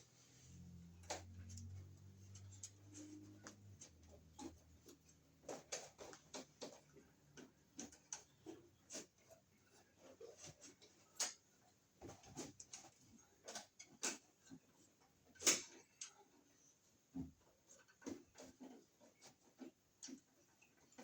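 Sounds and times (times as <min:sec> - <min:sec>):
faint clicks and light taps: 0:00.4 - 0:21.0.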